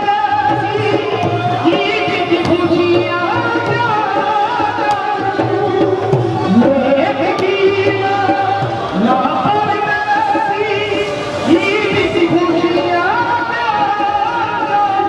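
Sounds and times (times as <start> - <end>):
light percussion: 0.0 - 15.0
person singing long notes: 0.0 - 15.0.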